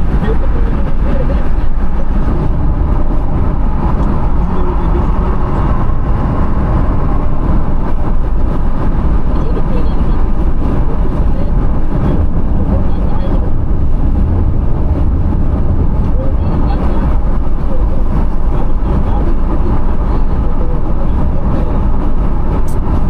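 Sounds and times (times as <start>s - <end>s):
car cabin road rumble: 0.0s - 23.0s.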